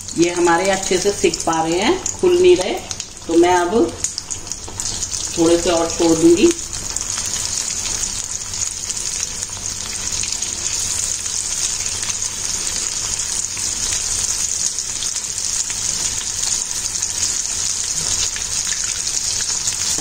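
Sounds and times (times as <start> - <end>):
falafel sizzling in hot oil: 0.0 - 20.0.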